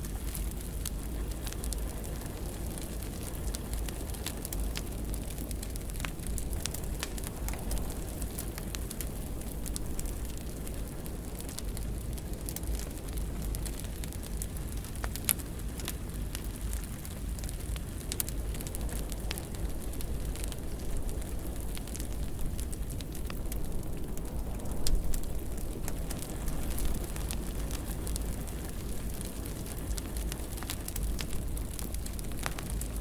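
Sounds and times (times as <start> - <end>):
fire crackling: 0.0 - 33.0
sharp pops of fire: 0.0 - 33.0.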